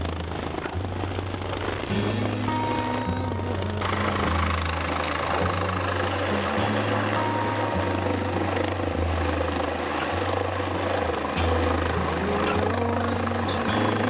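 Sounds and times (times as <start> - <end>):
helicopter rotor and turbine: 0.0 - 14.0
song with slow bass notes: 0.0 - 14.0.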